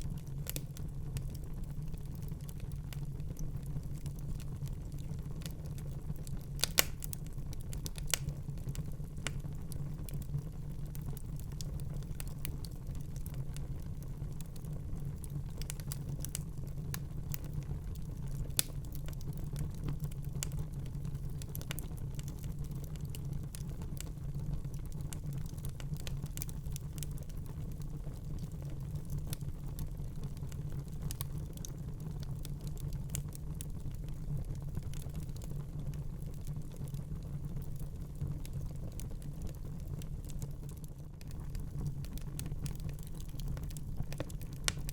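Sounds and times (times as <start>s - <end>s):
low fire rumble: 0.0s - 44.9s
wood fire crackling: 0.0s - 44.9s.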